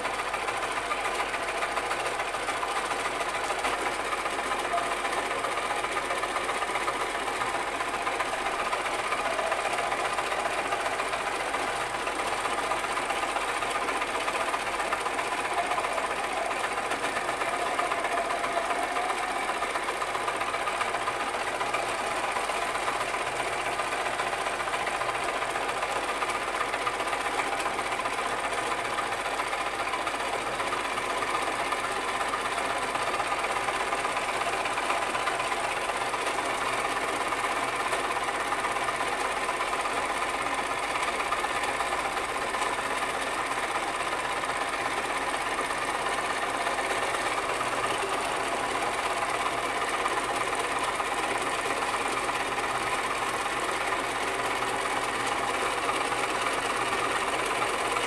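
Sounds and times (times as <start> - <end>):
sewing machine running: 0.0 - 58.0.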